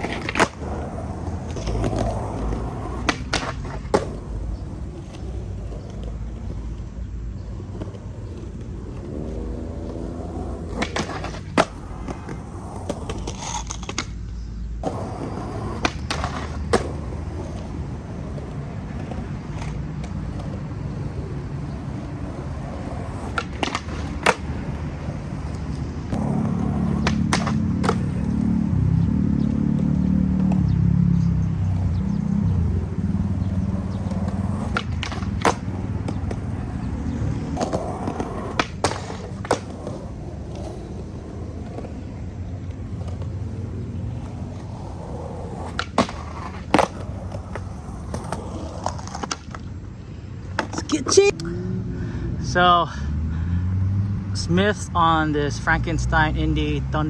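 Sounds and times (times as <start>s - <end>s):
skateboard wooden clacks: 0.0s - 30.8s, 31.4s - 49.7s, 50.4s - 51.5s
skateboard wheels rolling on concrete: 0.0s - 57.0s.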